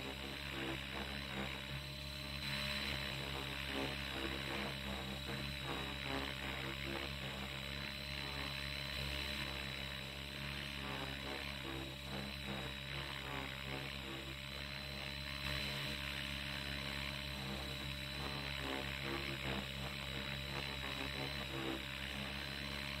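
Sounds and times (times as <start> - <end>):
model helicopter rotor hum: 0.0 - 23.0.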